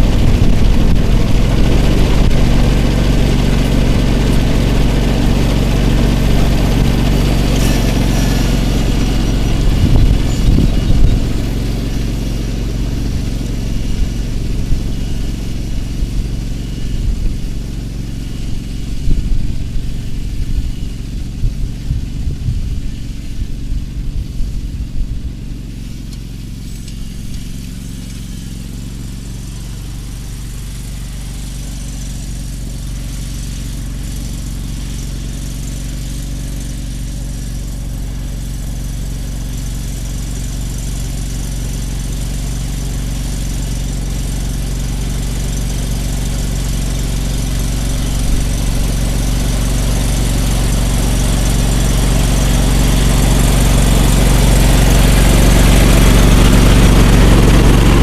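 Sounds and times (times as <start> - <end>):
riding lawn mower engine running: 0.0 - 58.0.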